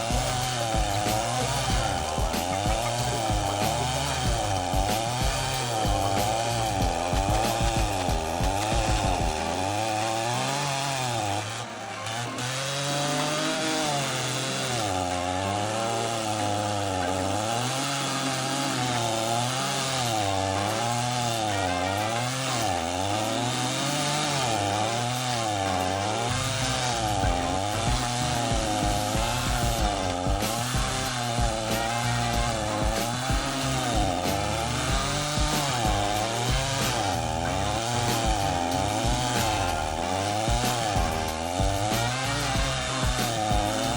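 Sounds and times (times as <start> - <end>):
chainsaw engine revving: 0.0 - 43.9.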